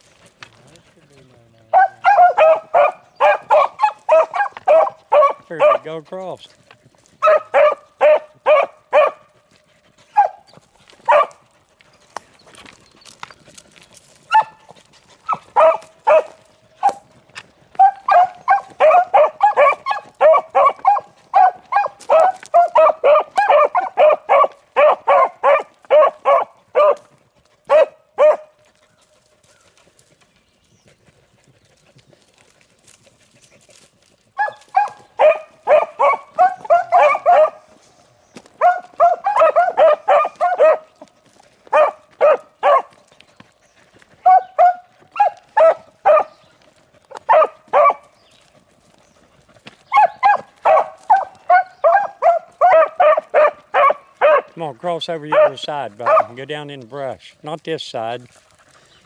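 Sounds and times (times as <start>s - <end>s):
hounds baying and barking: 0.0s - 59.0s.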